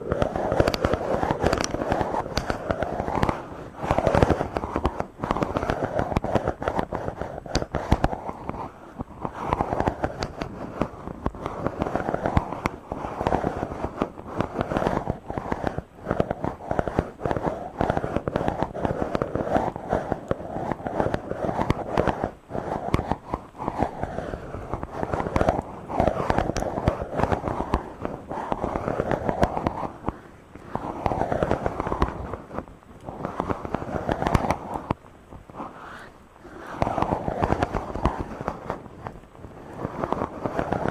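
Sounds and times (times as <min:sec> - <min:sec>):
hand rubbing microphone: 0:00.0 - 0:40.9.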